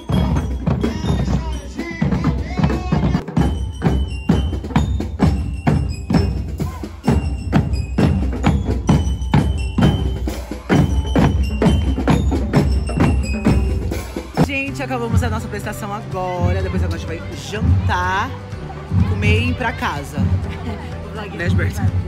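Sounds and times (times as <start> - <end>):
bass and snare drums beating: 0.0 - 22.0.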